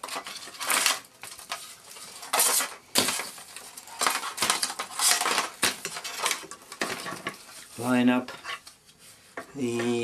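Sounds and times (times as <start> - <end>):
parts scraping and clattering: 0.0 - 10.0.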